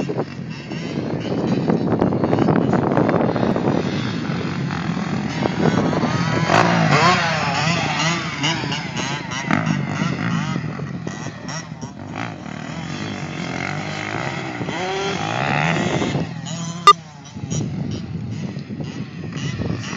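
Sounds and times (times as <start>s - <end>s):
motorcycle engines revving: 0.0s - 19.9s.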